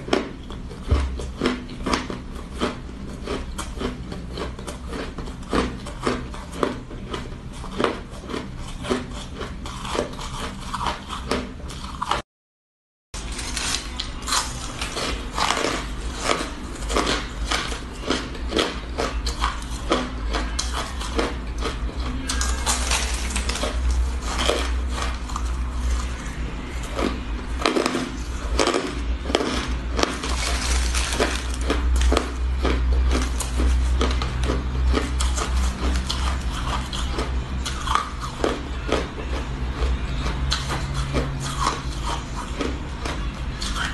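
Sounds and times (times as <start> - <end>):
crunching and chewing ice: 0.0 - 12.2, 13.2 - 43.9
steady low hum: 0.0 - 12.2, 13.2 - 43.9.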